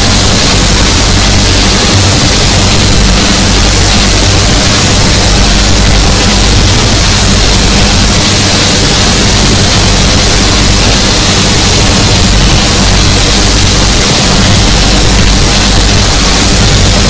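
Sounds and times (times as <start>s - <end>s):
harsh hiss and static: 0.0s - 17.0s
low droning hum: 0.0s - 17.0s.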